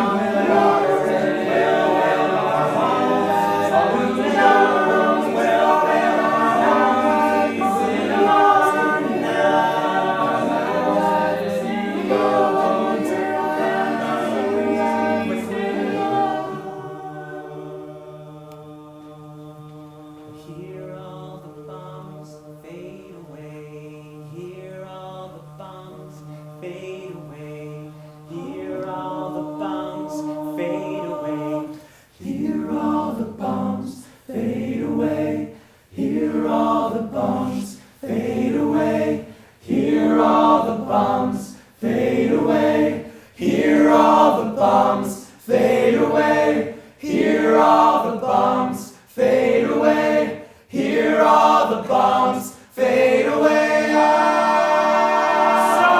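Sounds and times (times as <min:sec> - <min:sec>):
group of voices singing: 0:00.0 - 0:55.9.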